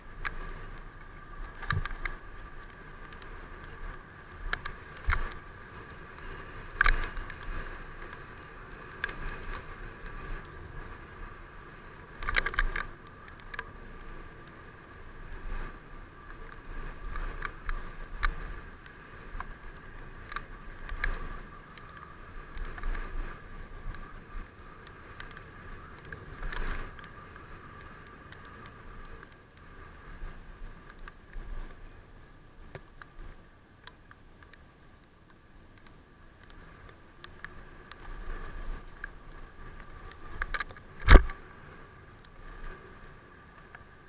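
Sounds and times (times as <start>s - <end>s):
bicycle tyres and wind hum: 0.0s - 44.0s.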